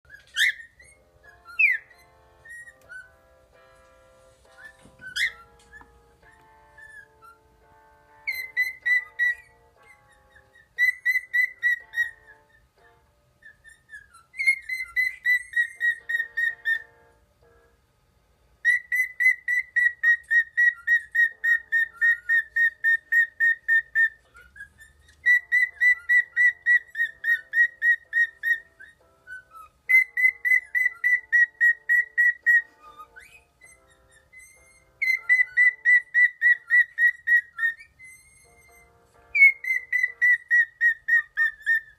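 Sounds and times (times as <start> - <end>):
cockatiel whistling high notes: 0.1 - 3.3, 4.4 - 17.1, 18.6 - 41.9.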